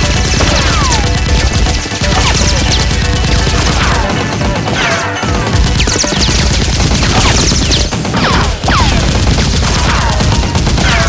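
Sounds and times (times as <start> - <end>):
automatic gunfire: 0.0 - 11.0.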